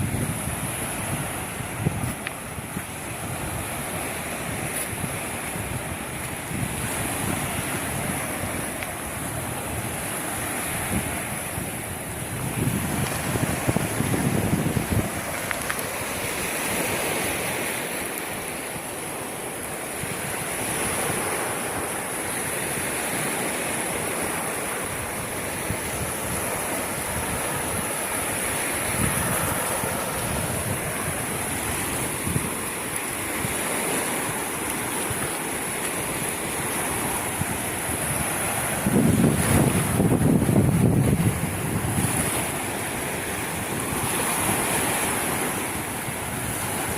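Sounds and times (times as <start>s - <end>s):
sea waves washing on shore: 0.0s - 46.9s
wind buffeting microphone: 0.0s - 46.9s.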